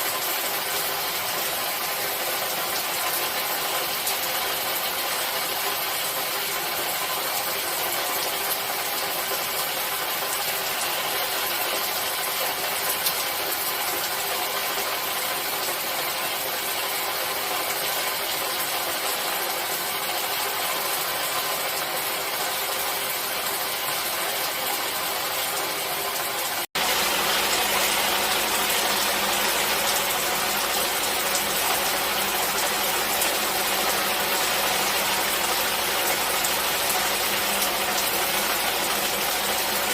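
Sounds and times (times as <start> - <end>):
falling water: 0.0 - 39.9
steady rain hiss: 0.0 - 39.9.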